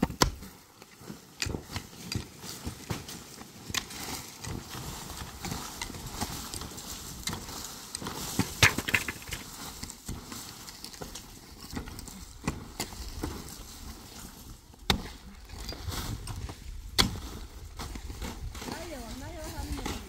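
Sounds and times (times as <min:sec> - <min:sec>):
picks and shovel striking hard earth: 0:00.0 - 0:18.8
scraping of soil and rubble: 0:00.1 - 0:20.0.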